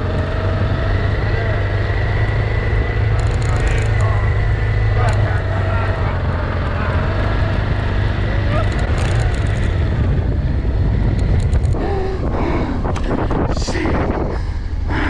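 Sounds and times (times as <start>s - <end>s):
motorcycle engine running: 0.0s - 14.2s
wind buffeting microphone: 0.0s - 15.0s.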